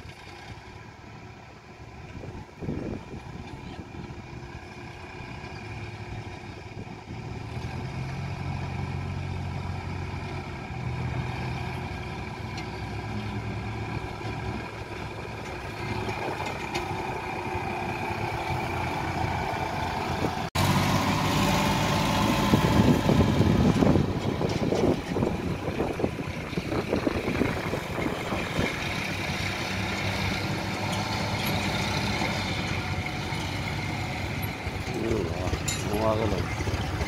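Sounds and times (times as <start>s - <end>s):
distant diesel engines humming: 0.0s - 37.0s
tractor driving on dirt track: 0.0s - 37.0s.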